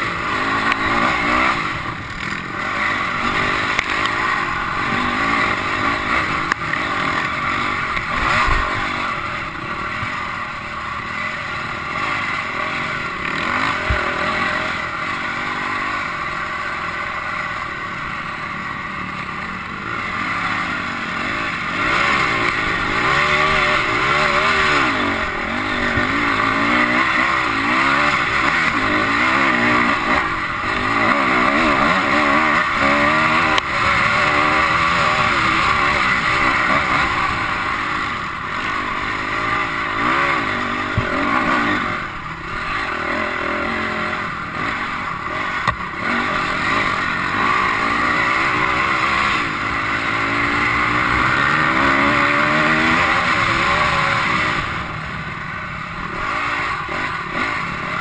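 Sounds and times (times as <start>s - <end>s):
dirt bike engine: 0.0s - 58.0s
wind and riding noise: 0.0s - 58.0s.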